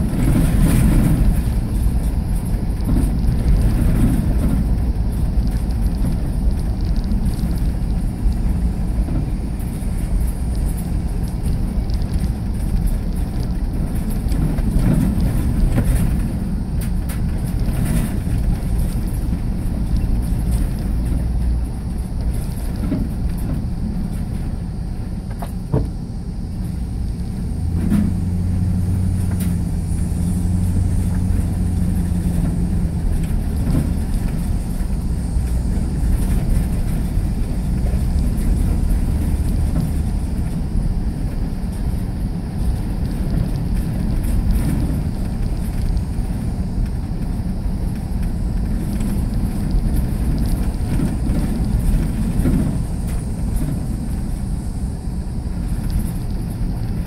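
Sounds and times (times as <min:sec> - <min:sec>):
road and engine rumble: 0:00.0 - 0:57.0.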